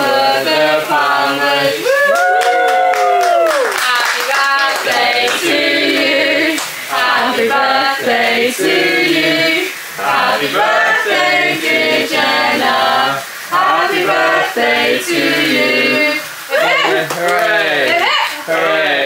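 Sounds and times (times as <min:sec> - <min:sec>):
group singing in mixed voices: 0:00.0 - 0:02.0, 0:03.6 - 0:19.0.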